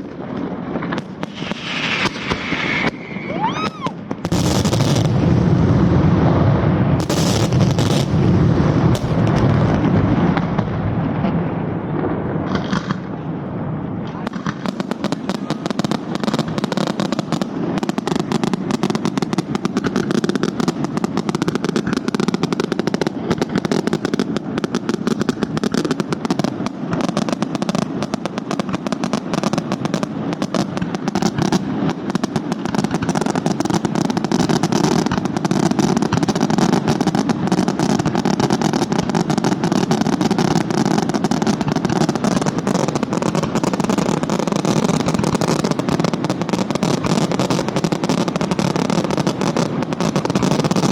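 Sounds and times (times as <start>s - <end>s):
fireworks barrage rattling: 0.0s - 50.9s.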